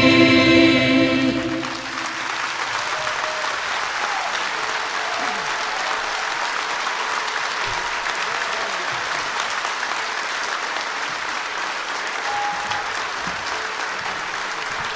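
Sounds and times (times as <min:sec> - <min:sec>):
choir clapping along: 0:00.0 - 0:14.9
audience applauding: 0:01.0 - 0:14.9.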